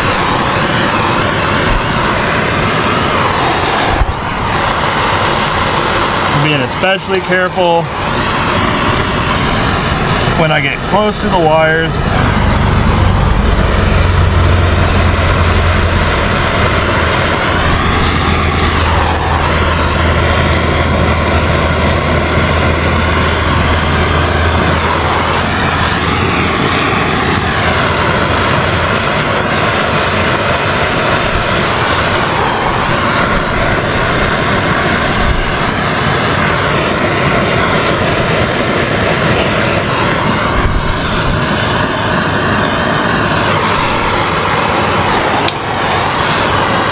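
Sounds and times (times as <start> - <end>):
gas torch flame rushing: 0.0 - 46.9.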